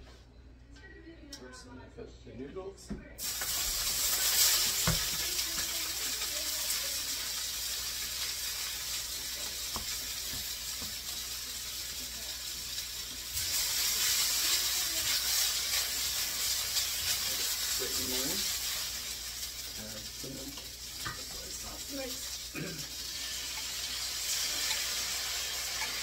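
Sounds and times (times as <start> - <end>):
noodles sizzling in hot oil: 3.2 - 26.0.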